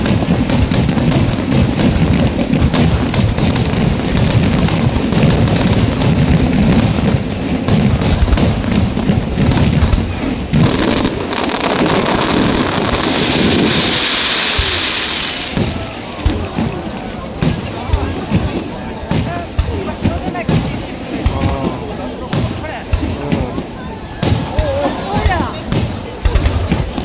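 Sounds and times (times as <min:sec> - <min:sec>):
fireworks booming and crackling: 0:00.0 - 0:27.0
hissing crackle: 0:00.0 - 0:27.0.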